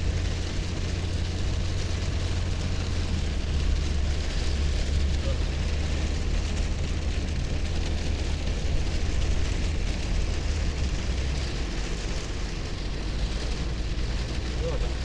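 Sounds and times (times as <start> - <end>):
heavy rain on truck roof: 0.0 - 15.0
truck driving rumble: 0.0 - 15.0.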